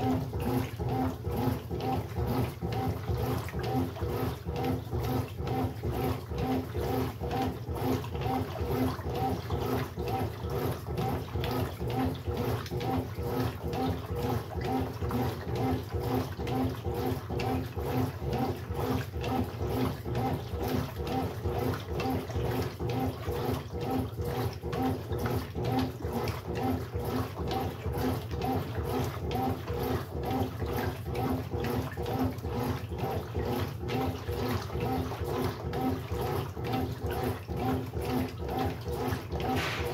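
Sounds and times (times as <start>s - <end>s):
pulsing washing machine hum: 0.0s - 39.9s
water sloshing in washing machine: 0.0s - 39.9s.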